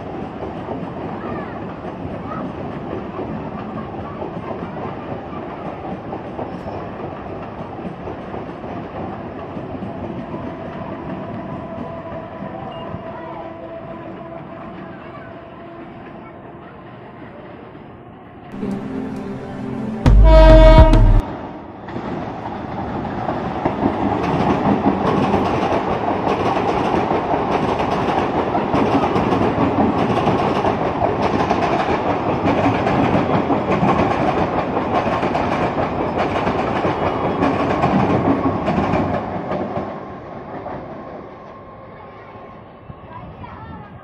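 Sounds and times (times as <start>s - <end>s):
train wheels rumbling on rails: 0.0s - 17.9s, 20.1s - 41.6s
wheels clickety-clack on rail joints: 0.0s - 17.9s, 21.8s - 41.3s.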